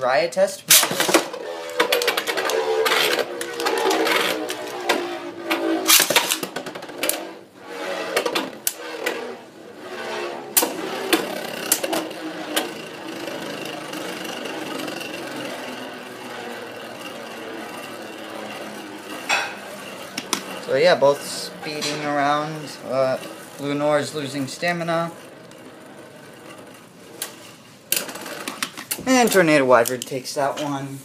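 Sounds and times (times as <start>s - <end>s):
spinning tops whirring: 0.7s - 30.5s.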